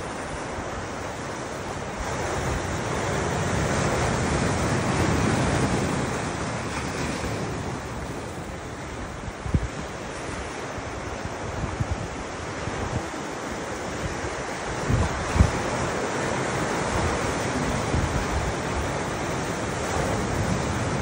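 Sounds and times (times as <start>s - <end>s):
ocean surf washing on shore: 0.0s - 21.0s
wind buffeting microphone: 0.0s - 21.0s.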